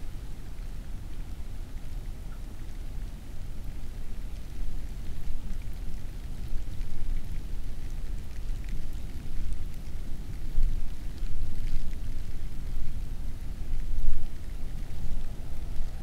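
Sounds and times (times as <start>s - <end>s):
light rain: 0.0s - 16.0s
raindrop ticks: 0.5s - 16.0s.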